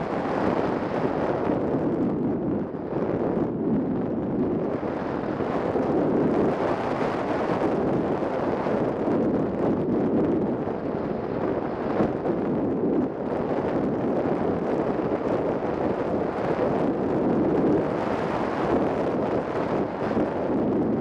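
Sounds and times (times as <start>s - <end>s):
airflow over microphone: 0.0s - 21.0s.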